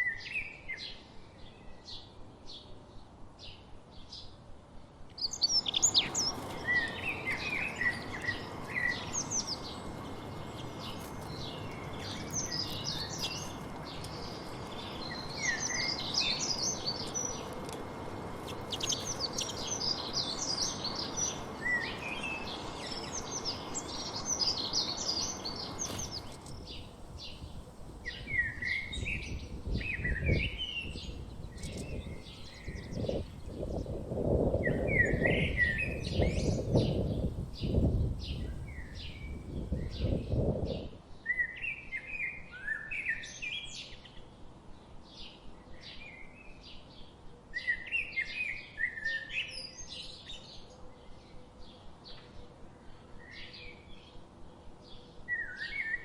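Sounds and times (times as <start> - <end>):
small birds chirping: 5.1 - 52.4.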